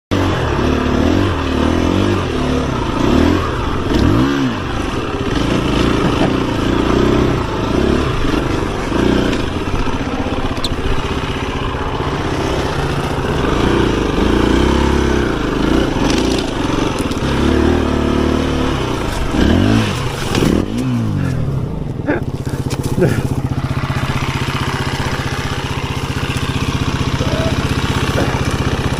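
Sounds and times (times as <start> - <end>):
dirt bike engine revving: 0.1 - 28.9.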